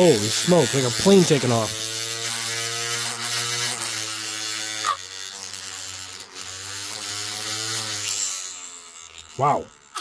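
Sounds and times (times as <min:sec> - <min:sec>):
paint shaker motor buzzing: 0:00.0 - 0:10.0.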